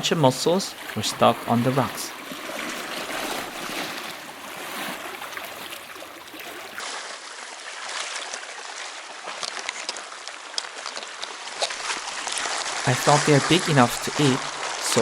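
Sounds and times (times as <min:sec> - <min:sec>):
seawater washing over rocks: 0:00.0 - 0:15.0.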